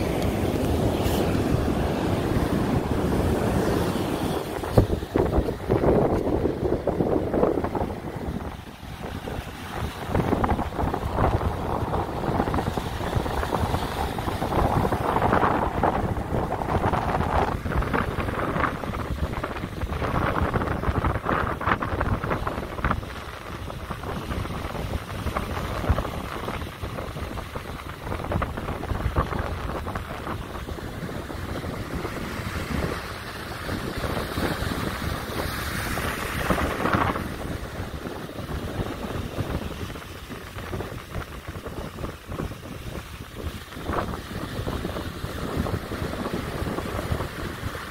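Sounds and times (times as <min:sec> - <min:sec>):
heavy surf rushing: 0:00.0 - 0:47.9
wind buffeting microphone: 0:00.0 - 0:47.9.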